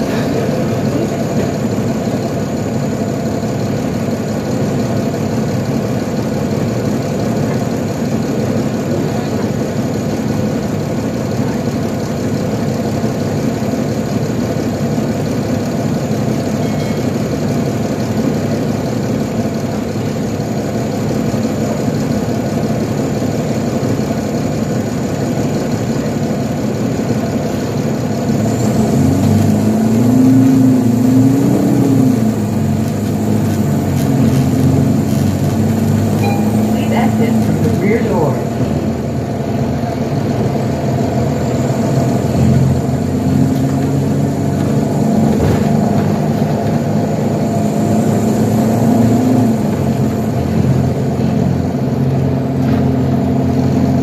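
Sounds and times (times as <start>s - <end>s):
bus engine running: 0.0s - 54.0s
road and cabin noise: 0.0s - 54.0s.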